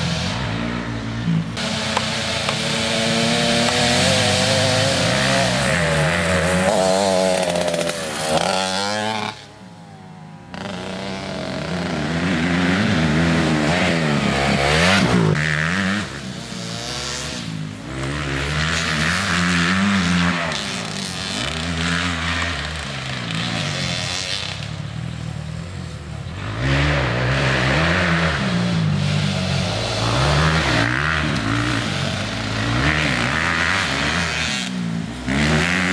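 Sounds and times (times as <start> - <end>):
motocross bike engine revving: 0.0 - 9.5, 10.5 - 35.9.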